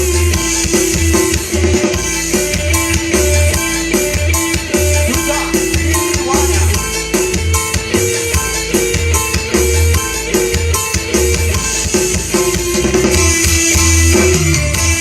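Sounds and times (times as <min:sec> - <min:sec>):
music with deep bass-drum beat: 0:00.0 - 0:15.0.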